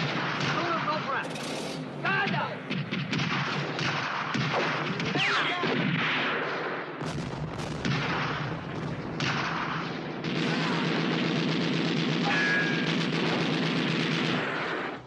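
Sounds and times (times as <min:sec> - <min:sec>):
rifle and machine-gun fire: 0:00.0 - 0:15.0.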